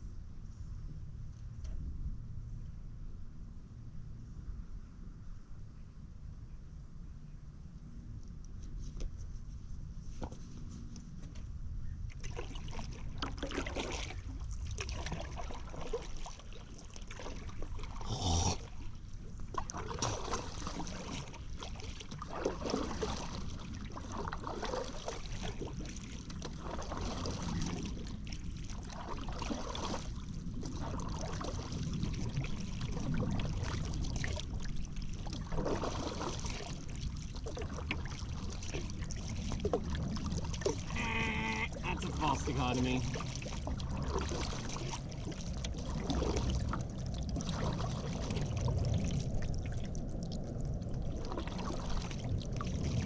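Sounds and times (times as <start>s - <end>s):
paddle strokes in water: 8.2s - 53.0s.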